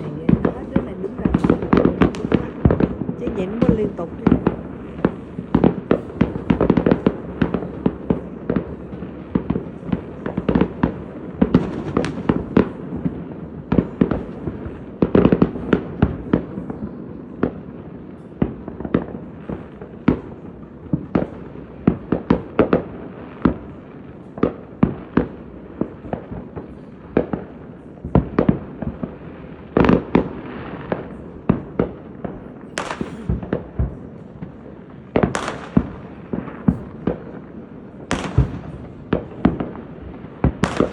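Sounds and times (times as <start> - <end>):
fireworks bangs and pops: 0.0 - 40.9.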